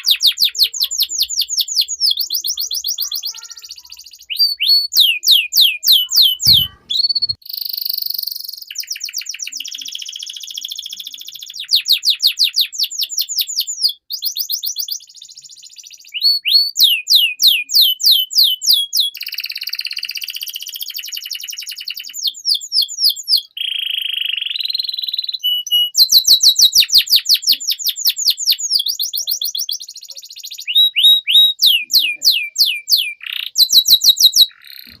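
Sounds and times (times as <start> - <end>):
canary singing: 0.0 - 35.0.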